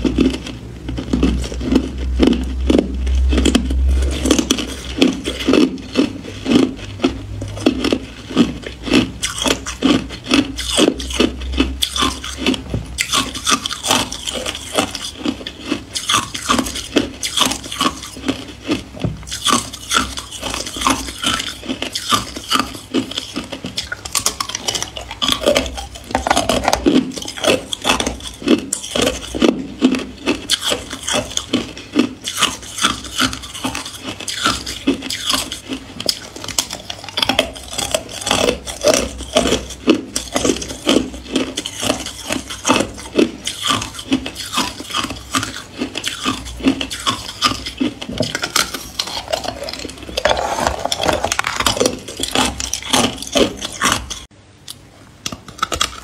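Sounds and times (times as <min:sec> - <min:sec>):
ice crunching between teeth: 0:00.0 - 0:56.0.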